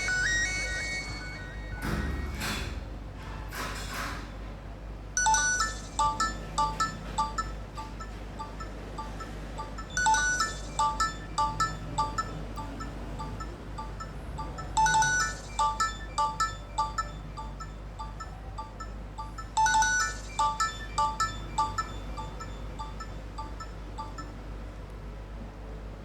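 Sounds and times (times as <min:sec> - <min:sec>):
electronic phone ringtone: 0:00.0 - 0:02.4, 0:05.2 - 0:24.4.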